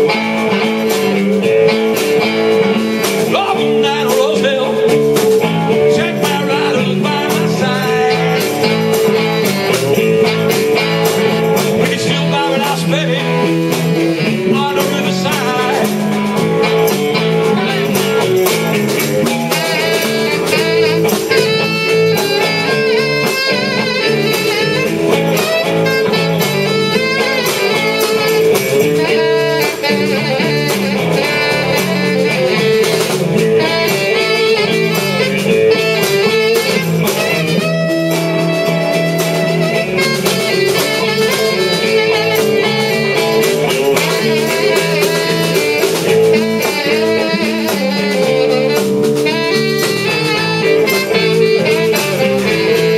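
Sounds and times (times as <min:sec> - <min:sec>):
drums: 0:00.0 - 0:52.9
electric bass: 0:00.0 - 0:52.9
electric guitar lead: 0:00.0 - 0:52.9.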